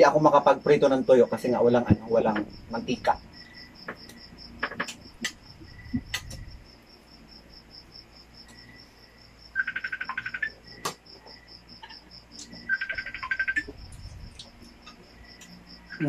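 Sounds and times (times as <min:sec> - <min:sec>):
cricket trilling: 0:00.0 - 0:16.0
rapid chirping bursts: 0:00.0 - 0:16.0.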